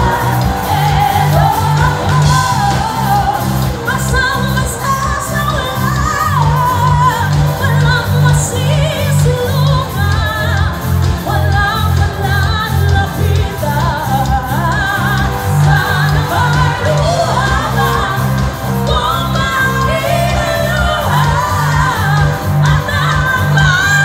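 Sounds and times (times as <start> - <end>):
live pop-rock band: 0.0 - 24.0
women singing: 0.0 - 24.0.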